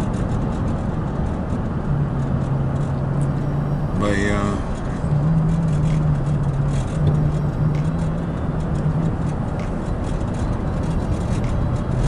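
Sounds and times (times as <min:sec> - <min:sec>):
road noise inside truck cab: 0:00.0 - 0:12.0
low engine drone: 0:01.9 - 0:12.0.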